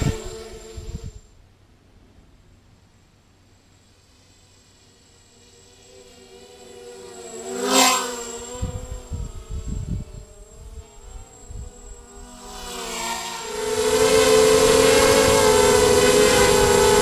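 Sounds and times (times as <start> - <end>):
drone motors humming: 0.0 - 1.4, 2.8 - 17.0.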